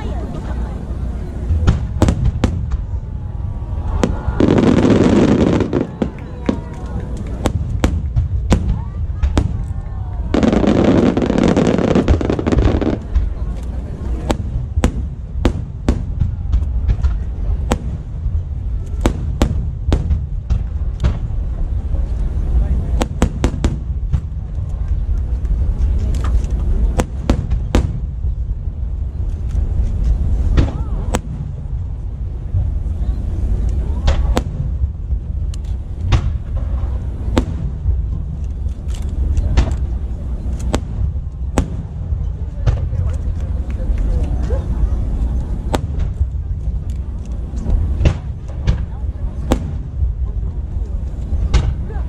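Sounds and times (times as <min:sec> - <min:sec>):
low rumble: 0:00.0 - 0:52.0
fireworks bangs: 0:00.9 - 0:52.0.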